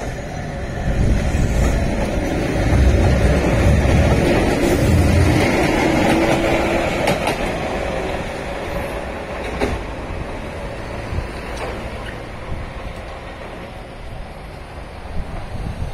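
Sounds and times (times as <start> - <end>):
train running past: 0.0 - 15.9.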